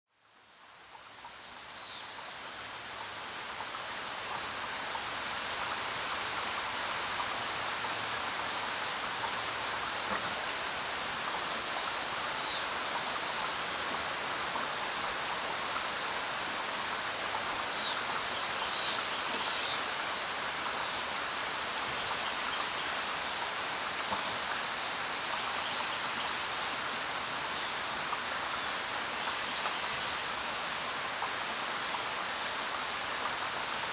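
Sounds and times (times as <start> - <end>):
steady rain: 0.1 - 33.9.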